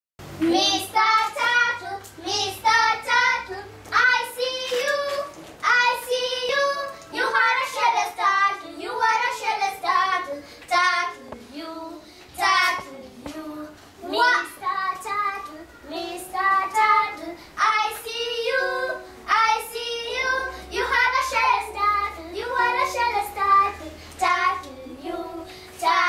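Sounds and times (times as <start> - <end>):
children singing: 0.4 - 26.0.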